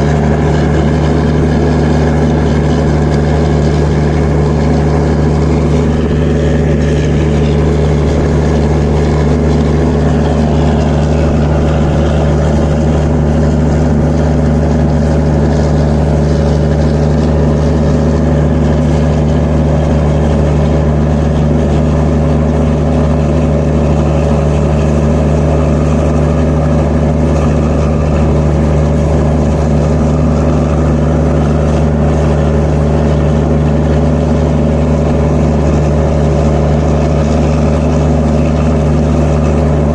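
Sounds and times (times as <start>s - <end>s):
diesel generator engine drone: 0.0s - 39.9s.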